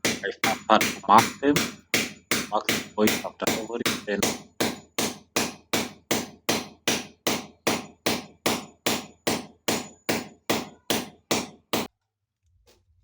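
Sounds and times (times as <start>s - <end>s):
hammer blows: 0.0s - 11.9s.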